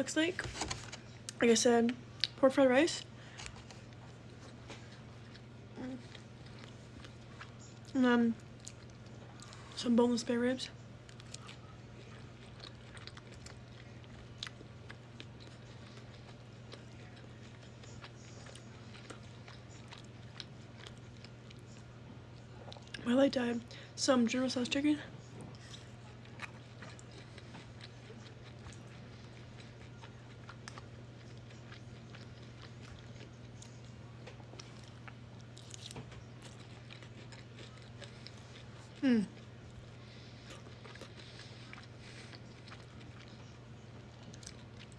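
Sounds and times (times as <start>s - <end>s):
low electrical hum: 0.0s - 44.9s
person chewing food: 3.3s - 9.8s, 11.0s - 23.0s, 25.4s - 44.9s.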